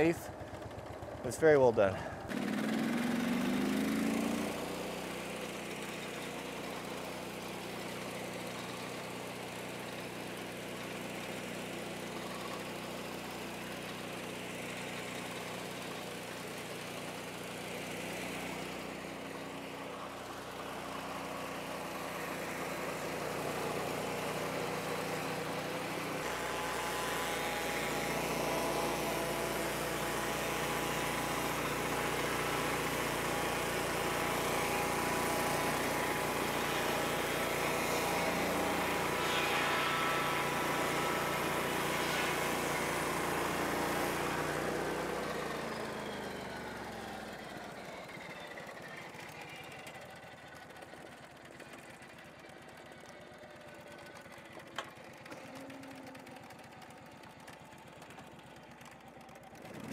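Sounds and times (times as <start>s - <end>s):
sawmill sawing log: 0.0s - 59.9s.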